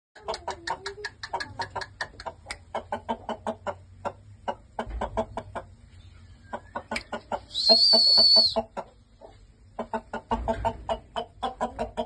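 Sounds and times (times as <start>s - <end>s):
chickens clucking: 0.2s - 12.0s.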